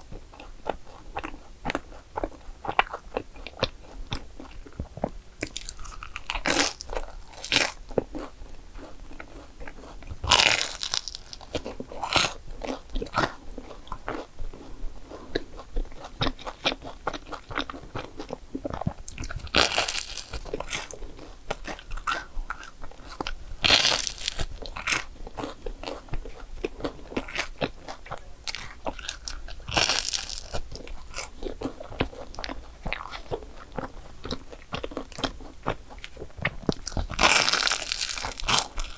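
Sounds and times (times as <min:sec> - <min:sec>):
chewing: 0:00.1 - 0:38.9
crunching bites into waffles: 0:05.4 - 0:14.7, 0:15.6 - 0:38.9.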